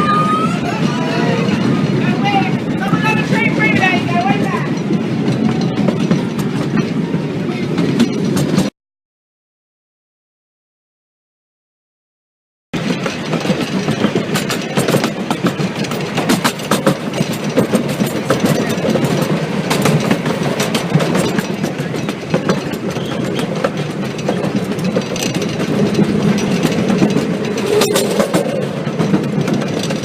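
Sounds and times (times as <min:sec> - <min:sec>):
train rumbling on rails: 0:00.0 - 0:08.7, 0:12.8 - 0:30.0
wheels clattering on track: 0:00.0 - 0:08.7, 0:12.8 - 0:30.0.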